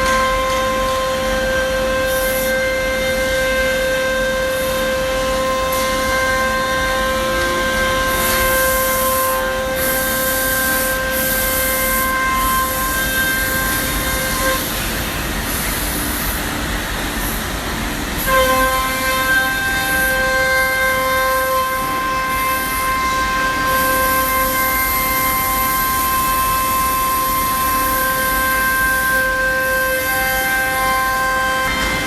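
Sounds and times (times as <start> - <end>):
router spindle high whine: 0.0 - 32.0.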